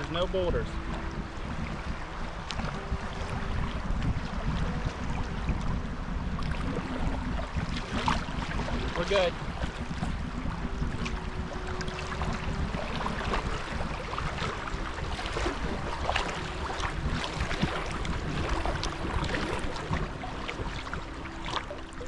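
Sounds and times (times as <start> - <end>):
paddle splashes: 0.0 - 22.0
water lapping around canoe: 0.0 - 22.0
wind rumbling on microphone: 0.0 - 22.0.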